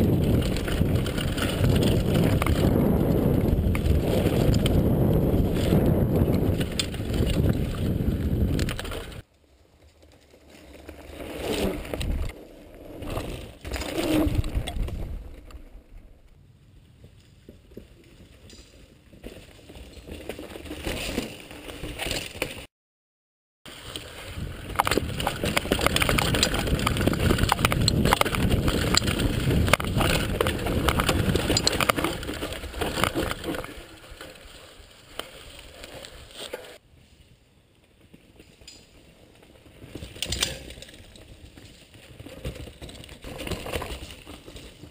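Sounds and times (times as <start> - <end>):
bike rattling over bumps: 0.0 - 16.4, 17.0 - 22.7, 23.7 - 36.8, 37.9 - 44.9
bike tyre noise on trail: 0.0 - 22.7, 23.7 - 44.9.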